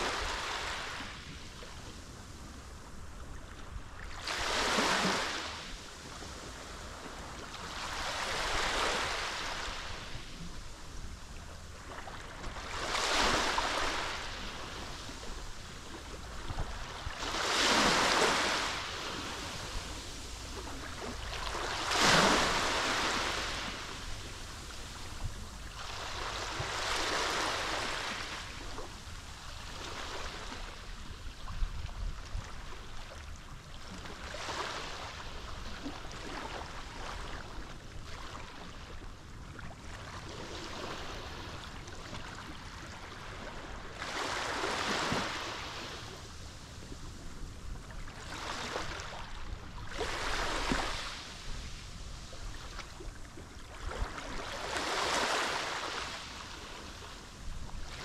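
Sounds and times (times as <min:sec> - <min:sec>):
small waves breaking ashore: 0:00.0 - 0:58.0.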